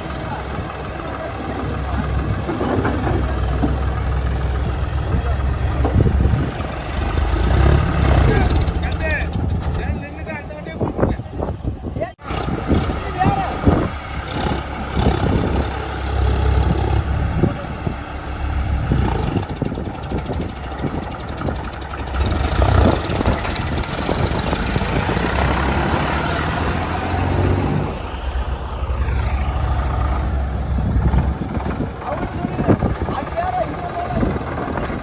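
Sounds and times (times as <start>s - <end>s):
heavy diesel engines running: 0.0s - 35.0s.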